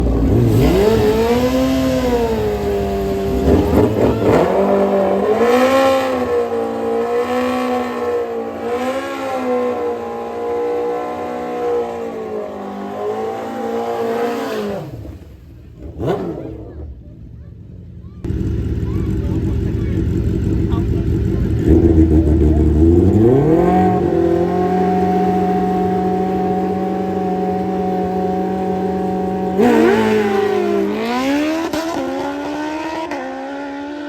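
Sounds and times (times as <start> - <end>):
drag racing engines at full throttle: 0.0 - 34.0.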